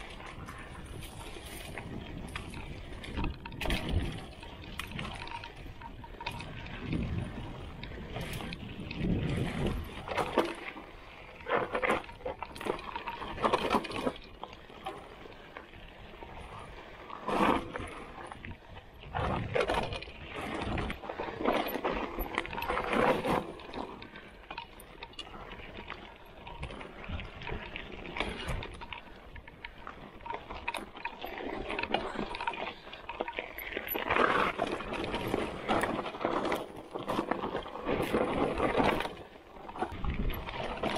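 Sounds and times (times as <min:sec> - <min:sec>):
bike chain and frame rattling: 0:00.0 - 0:40.9
bike tyres rolling on dirt: 0:00.0 - 0:40.9.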